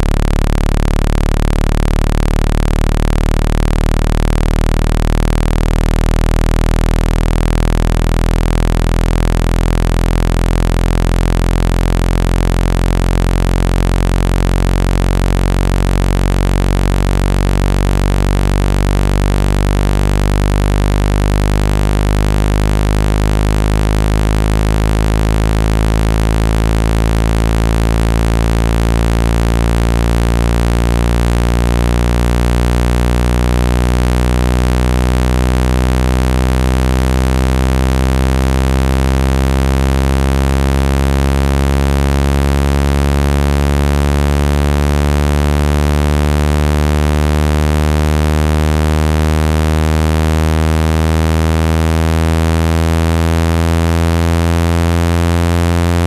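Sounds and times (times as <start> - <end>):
low buzzing tone rising in pitch: 0.0 - 56.0.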